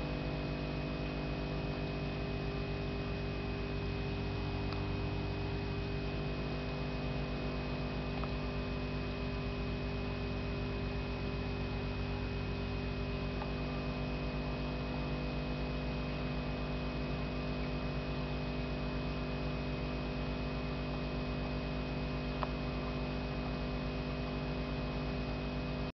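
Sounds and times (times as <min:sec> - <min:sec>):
electrical mains hum: 0:00.0 - 0:25.9.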